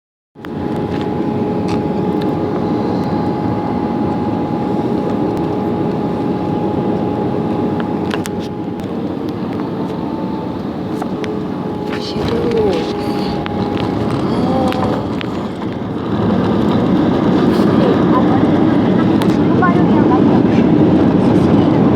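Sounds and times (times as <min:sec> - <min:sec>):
jet engines and airflow rumble: 0:00.4 - 0:21.9.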